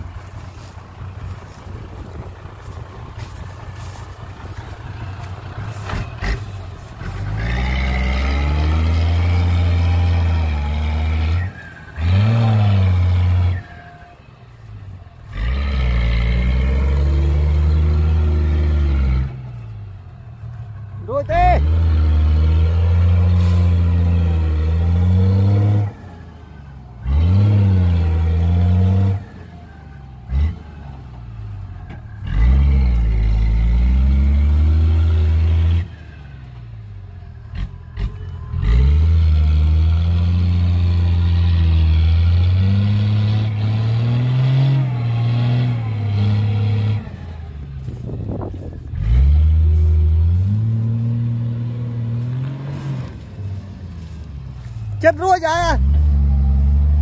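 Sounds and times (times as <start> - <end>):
truck diesel engine revving: 0.0 - 57.0.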